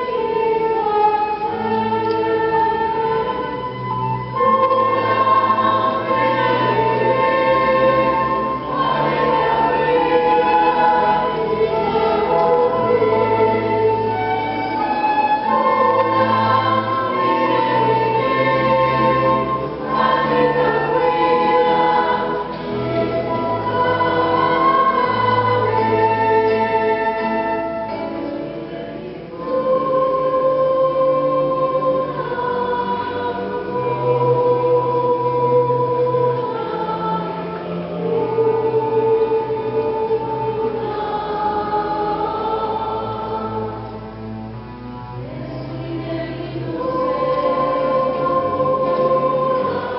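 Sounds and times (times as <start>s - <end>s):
choir singing long held notes: 0.0s - 49.9s
instrumental accompaniment: 0.0s - 49.9s.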